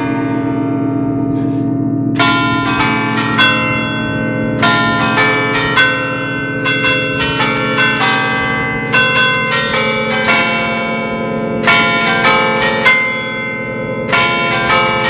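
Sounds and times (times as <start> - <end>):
church bells ringing: 0.0 - 15.0
low bell tones humming: 0.0 - 15.0.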